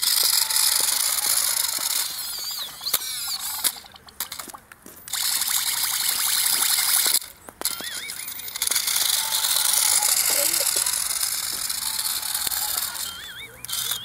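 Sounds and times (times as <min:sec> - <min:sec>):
toy car motors whirring and rattling: 0:00.0 - 0:14.0.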